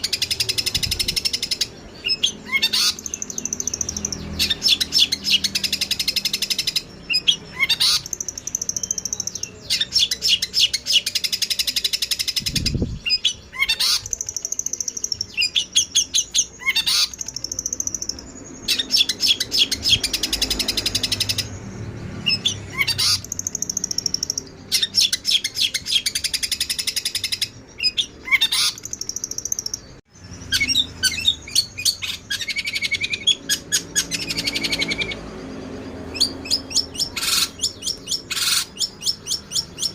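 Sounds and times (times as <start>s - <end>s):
sparrows chattering: 0.0s - 39.9s.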